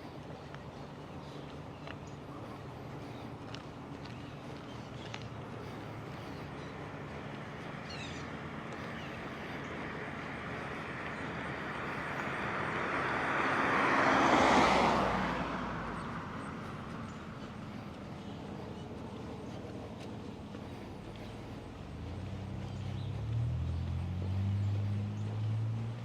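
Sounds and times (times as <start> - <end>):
car driving past: 0.0 - 26.0.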